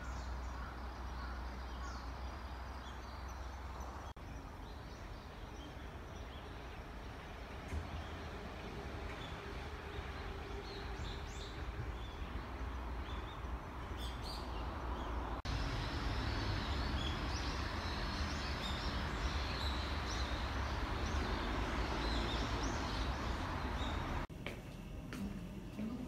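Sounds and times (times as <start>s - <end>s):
small birds chirping: 0.0s - 24.3s
outdoor background hum: 0.0s - 26.0s.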